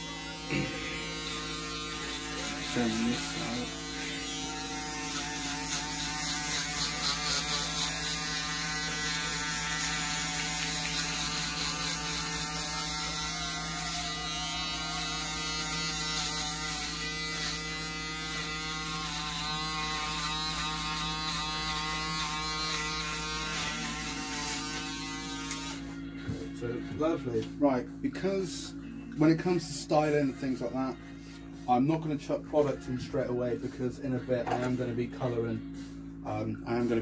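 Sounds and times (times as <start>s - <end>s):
electric shaver running: 0.0s - 37.0s.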